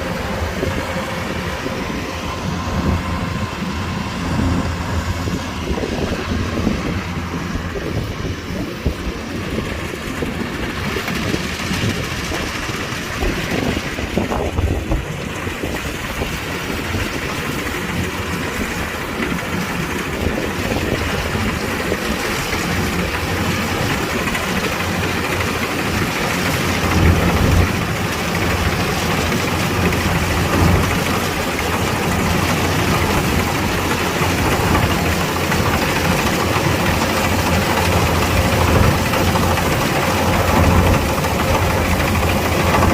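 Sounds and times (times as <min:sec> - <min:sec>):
combine harvester diesel engine: 0:00.0 - 0:42.9.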